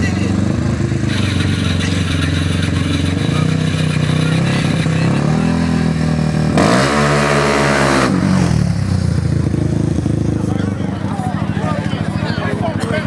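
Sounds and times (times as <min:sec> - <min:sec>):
atv engine idling and revving: 0:00.0 - 0:13.0.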